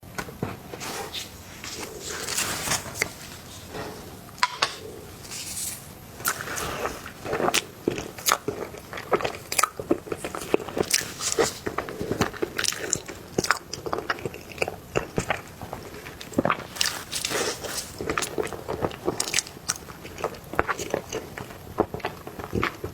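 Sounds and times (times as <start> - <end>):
chewing soft cake: 0.5 - 22.9.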